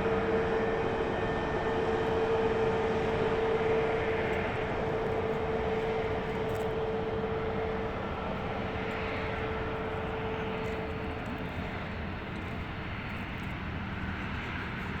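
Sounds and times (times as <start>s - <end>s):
jet engines roaring: 0.0s - 14.9s
jet engine whine: 0.0s - 15.0s.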